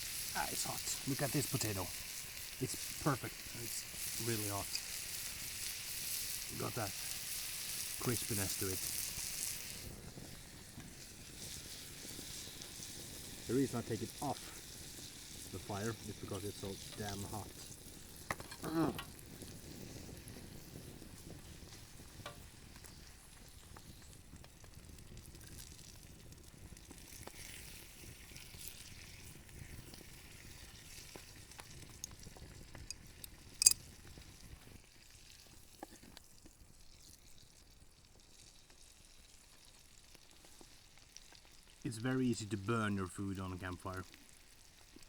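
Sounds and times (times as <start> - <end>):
potatoes sizzling in a pan: 0.0 - 42.4, 44.0 - 45.0.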